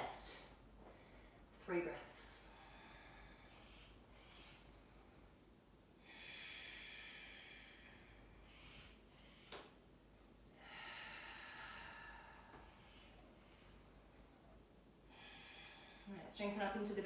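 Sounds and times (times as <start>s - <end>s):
slow deep breathing: 0.8s - 1.6s, 2.3s - 16.2s.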